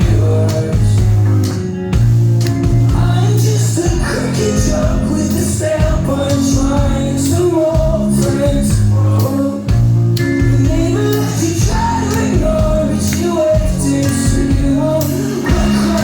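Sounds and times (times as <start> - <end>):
person singing: 0.0 - 1.2, 2.9 - 9.8, 10.4 - 16.0
drum and cymbal hits: 0.0 - 16.0
live rock band playing: 0.0 - 16.0.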